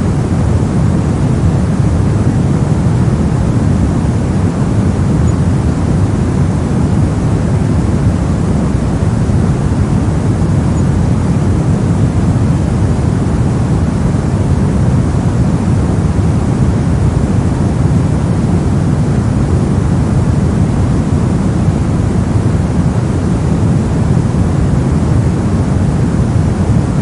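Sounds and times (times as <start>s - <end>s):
brown noise rumbling hiss: 0.0s - 27.0s.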